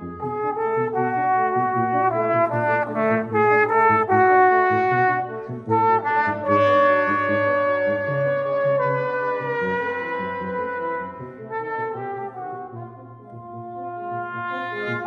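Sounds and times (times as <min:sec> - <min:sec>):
brass quintet playing chords: 0:00.0 - 0:15.0.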